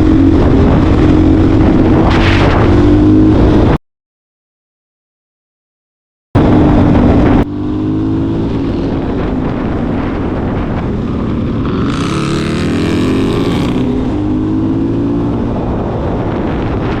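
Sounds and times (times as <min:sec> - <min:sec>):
motorcycle engine running: 0:00.0 - 0:03.8, 0:06.4 - 0:17.0.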